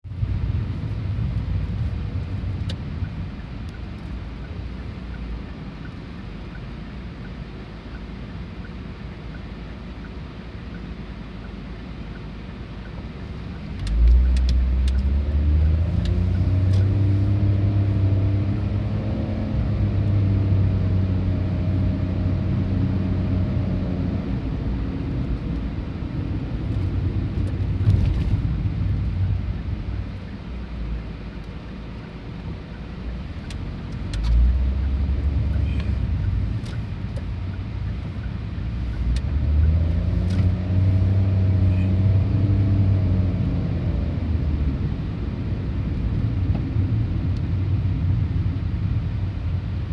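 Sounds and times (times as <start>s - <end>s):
diesel railcar engine rumble: 0.0s - 49.9s.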